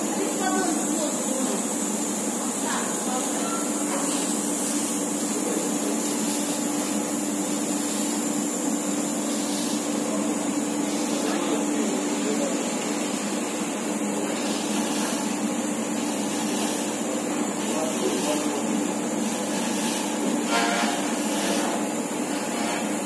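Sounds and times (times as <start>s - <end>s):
air hissing: 0.0s - 23.0s.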